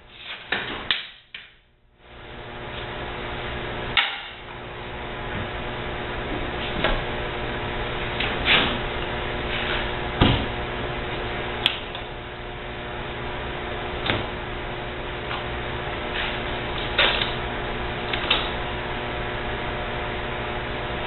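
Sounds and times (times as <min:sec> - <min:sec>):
steady hum: 0:01.6 - 0:21.0.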